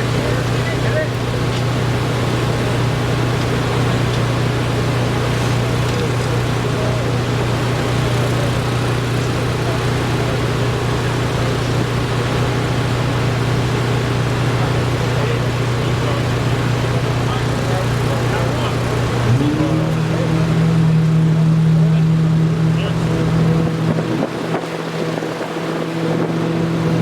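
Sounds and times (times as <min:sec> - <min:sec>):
low mechanical drone: 0:00.0 - 0:27.0.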